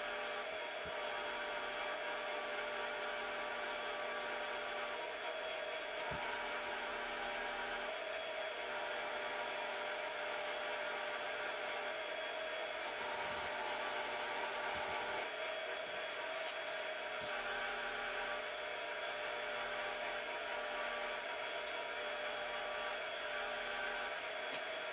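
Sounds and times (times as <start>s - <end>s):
lathe motor whine: 0.0s - 24.9s.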